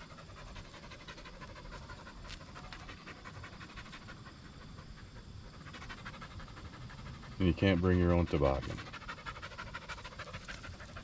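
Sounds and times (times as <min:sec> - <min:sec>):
puppy panting: 0:00.0 - 0:11.0.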